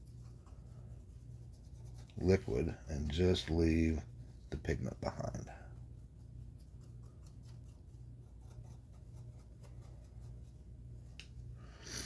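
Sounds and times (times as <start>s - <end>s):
brush rubbing on plastic: 0.0s - 11.0s.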